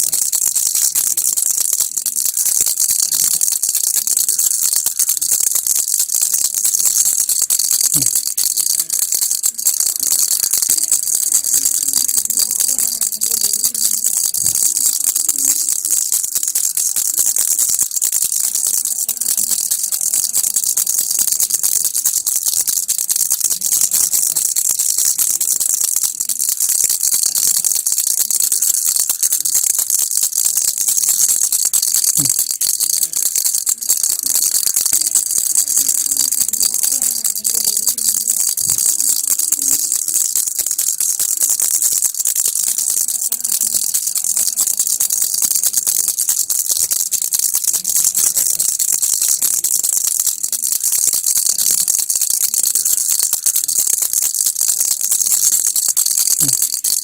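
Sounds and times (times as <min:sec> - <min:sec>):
baby rattle shaking: 0:00.0 - 0:57.0.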